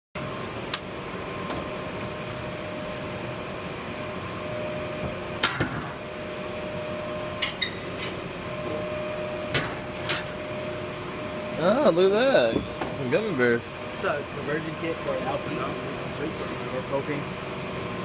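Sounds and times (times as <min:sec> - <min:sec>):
fan-like mechanical hum: 0:00.2 - 0:18.0.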